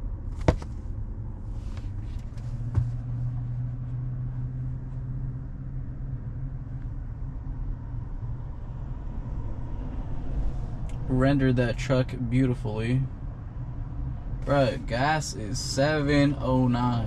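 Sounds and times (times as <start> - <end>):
low cabin hum: 0.0 - 9.4, 10.1 - 17.0
road and tyre rumble: 0.0 - 17.0.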